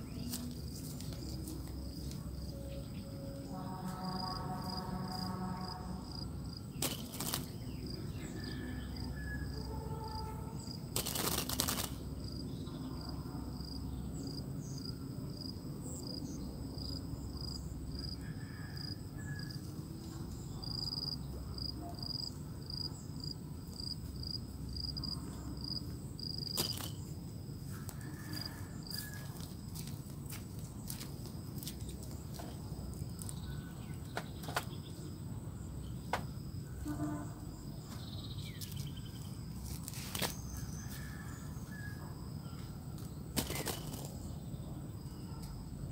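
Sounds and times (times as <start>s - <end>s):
insects chirping: 0.0s - 45.9s.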